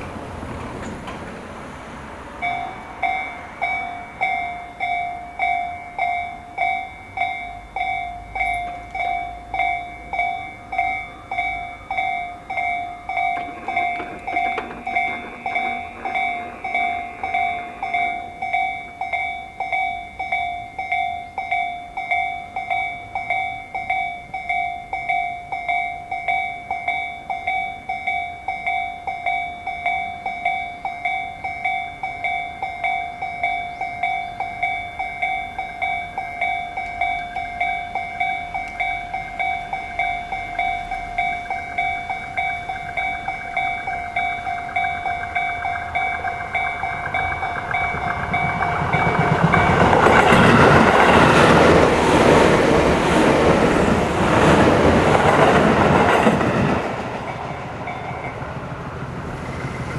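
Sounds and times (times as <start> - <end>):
level crossing alarm dinging: 2.4 - 52.5.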